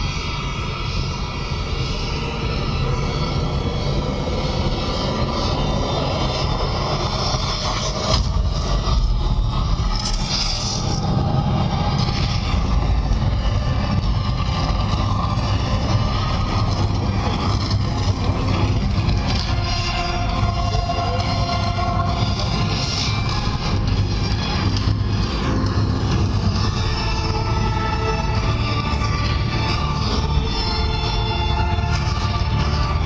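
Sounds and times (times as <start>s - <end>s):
loud rumbling drone soundtrack: 0.0s - 33.0s.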